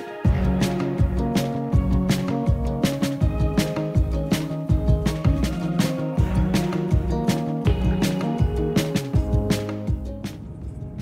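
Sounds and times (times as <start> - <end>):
music with drum beat: 0.0 - 11.0.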